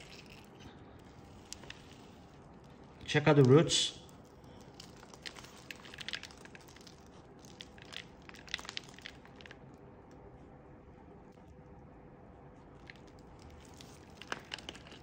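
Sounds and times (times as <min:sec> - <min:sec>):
potting mix crackling in hands: 0:00.0 - 0:15.0.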